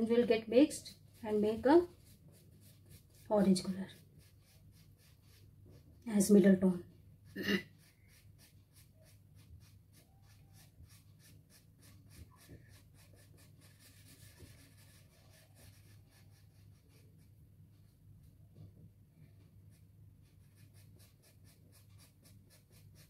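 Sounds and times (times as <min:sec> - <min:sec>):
pastel scratching on paper: 0:00.0 - 0:06.5, 0:07.2 - 0:17.9, 0:19.3 - 0:23.0.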